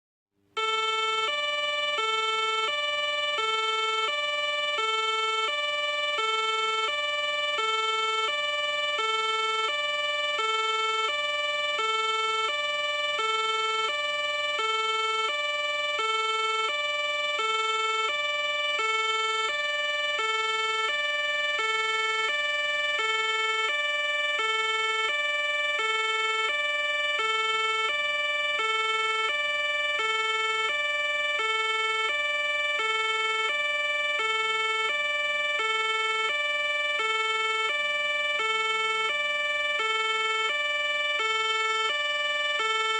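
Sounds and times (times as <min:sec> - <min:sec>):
fire engine two-tone siren: 0:00.6 - 0:42.9.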